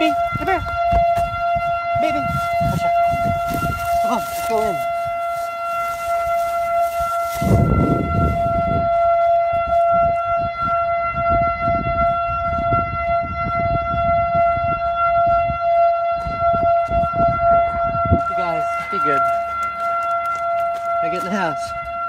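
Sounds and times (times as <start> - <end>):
warning siren steady tone: 0.0 - 22.0.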